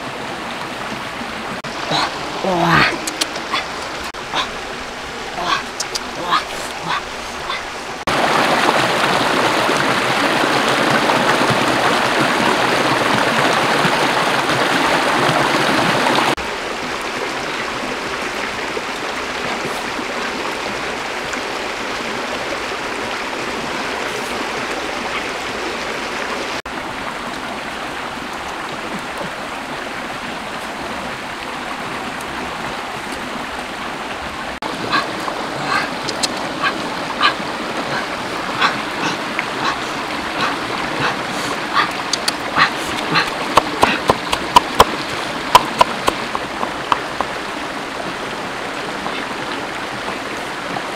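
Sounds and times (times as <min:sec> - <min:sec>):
rocky stream rushing: 0:00.0 - 0:50.9.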